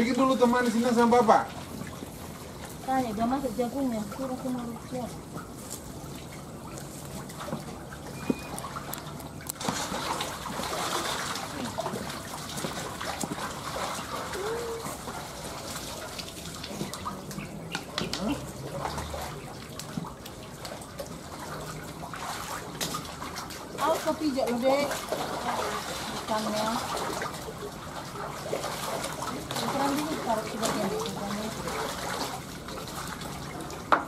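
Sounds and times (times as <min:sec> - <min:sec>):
water trickling: 0:00.0 - 0:34.0
fish thrashing in water: 0:04.0 - 0:33.9
feet splashing through water: 0:04.2 - 0:33.9.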